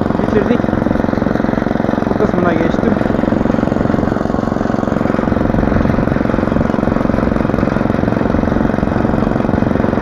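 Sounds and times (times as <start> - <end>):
small petrol engine running: 0.0 - 10.0.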